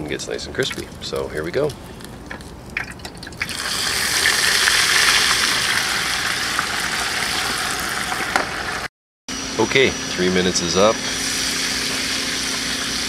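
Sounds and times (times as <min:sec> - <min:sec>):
oil sizzling and bubbling: 0:00.0 - 0:08.9, 0:11.0 - 0:13.0.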